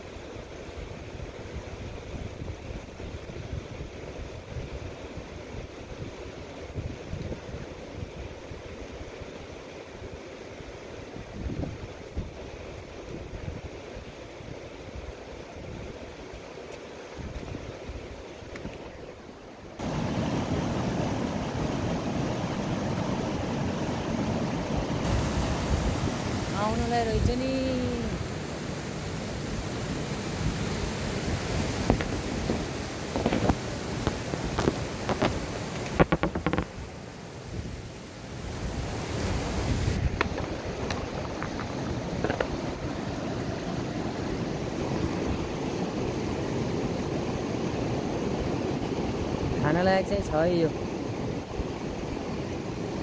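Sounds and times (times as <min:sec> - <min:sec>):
stream rushing over boulders: 0:00.0 - 0:53.0.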